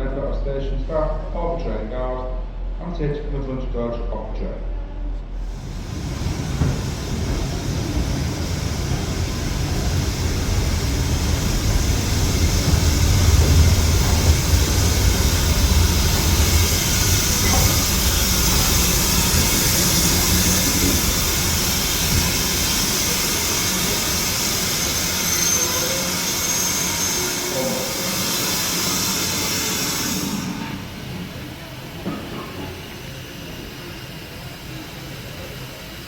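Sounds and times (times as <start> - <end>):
steam train rumble: 0.0 - 36.0
steam hissing: 5.4 - 36.0.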